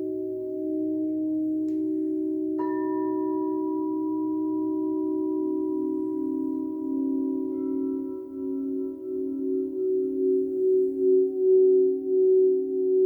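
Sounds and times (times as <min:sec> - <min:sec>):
bowl struck high ringing: 0:00.0 - 0:13.0
singing bowls ringing: 0:00.0 - 0:13.0.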